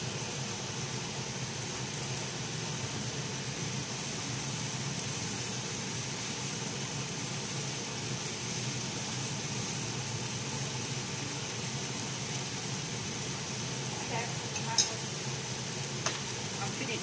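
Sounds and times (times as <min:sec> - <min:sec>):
filling sizzling in a frying pan: 0:00.0 - 0:17.0.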